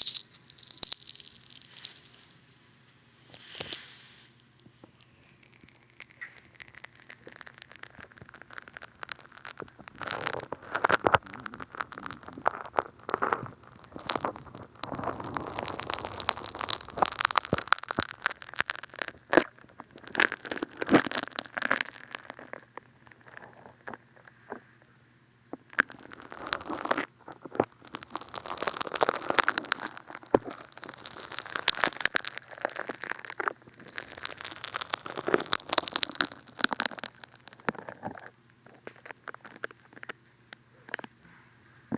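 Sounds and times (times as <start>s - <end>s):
soap foam crackling and popping: 0.0s - 2.5s, 3.2s - 41.2s.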